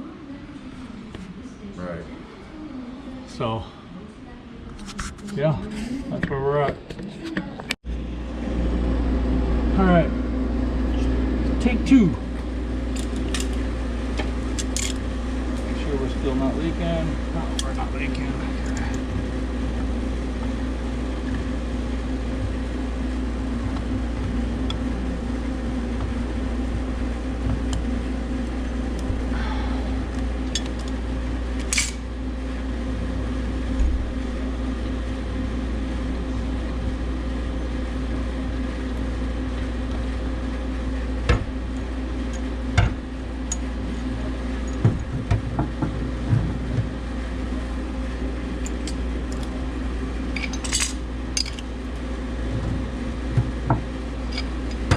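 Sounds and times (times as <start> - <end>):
mechanical hum of equipment: 0.0 - 54.9.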